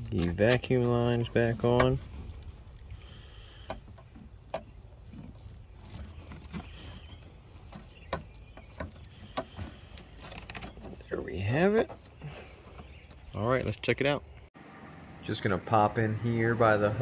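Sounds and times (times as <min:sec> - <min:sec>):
rubber hoses clicking and rubbing: 0:00.0 - 0:13.8.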